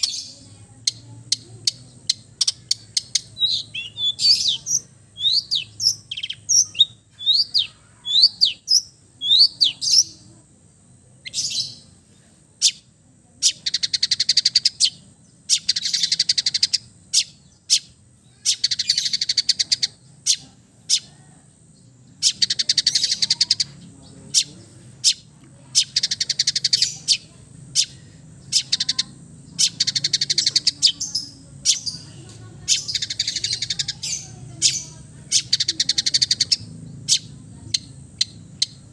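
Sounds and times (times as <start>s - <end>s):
shrike singing chirps and trills: 0.0s - 38.9s.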